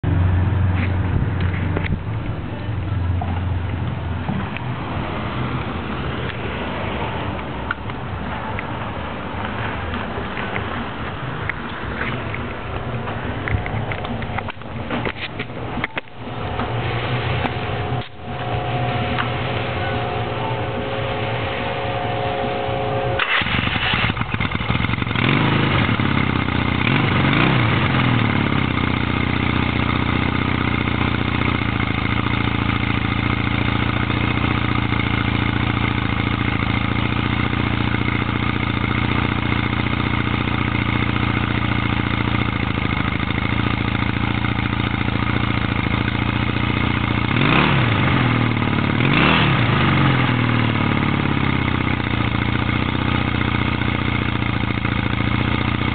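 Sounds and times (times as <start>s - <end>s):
motorcycle engine idling: 7.2s - 55.9s.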